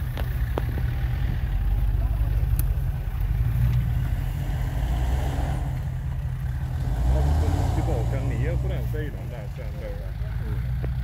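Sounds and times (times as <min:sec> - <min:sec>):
car engine at low revs: 0:00.0 - 0:11.0.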